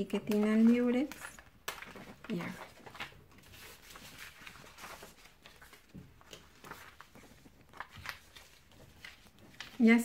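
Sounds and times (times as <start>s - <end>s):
paper rustling: 0.0s - 10.0s
soft taps of paper: 0.2s - 9.8s.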